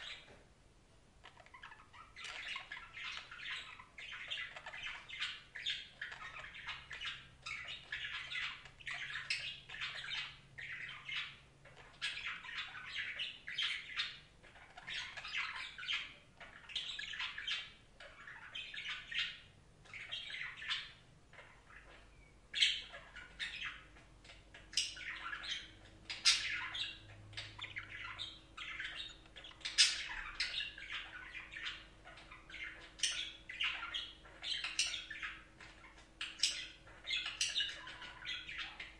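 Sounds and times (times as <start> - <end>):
budgerigars chattering: 1.2 - 38.9.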